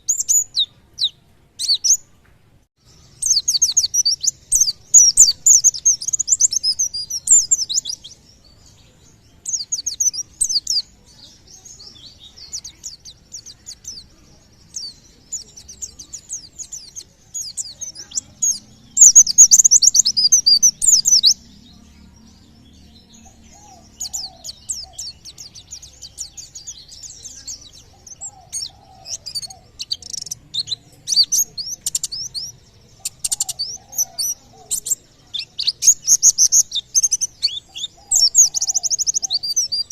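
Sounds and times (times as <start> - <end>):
bird singing fast chattering notes: 0.0 - 2.1, 2.8 - 39.9.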